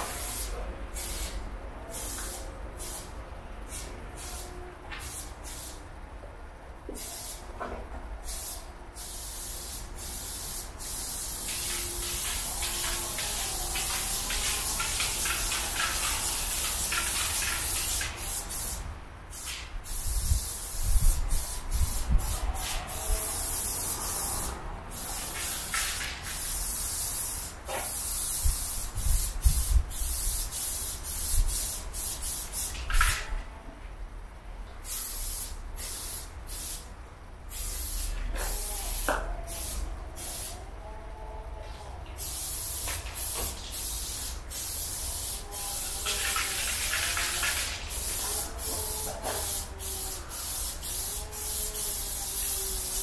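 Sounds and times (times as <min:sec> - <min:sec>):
spray paint can hissing: 0:00.0 - 0:03.1, 0:03.7 - 0:05.8, 0:06.9 - 0:07.5, 0:08.2 - 0:33.3, 0:34.8 - 0:36.9, 0:37.5 - 0:40.6, 0:42.2 - 0:53.0.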